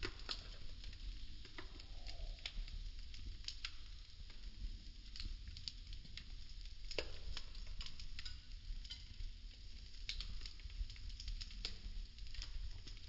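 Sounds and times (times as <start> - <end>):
soft hiss: 0.0 - 13.0
wooden sticks crackling in flames: 0.0 - 13.0.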